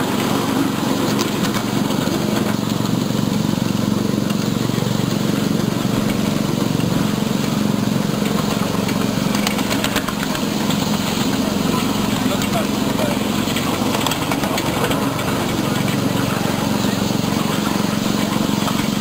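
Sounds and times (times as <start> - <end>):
miniature train running on rails: 0.0 - 19.0.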